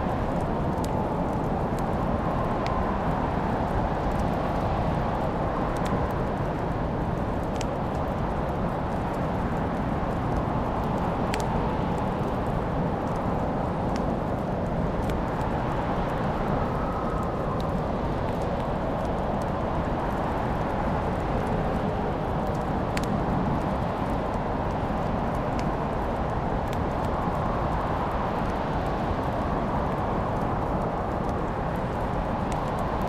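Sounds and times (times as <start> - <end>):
fire crackling and popping: 0.0 - 33.0.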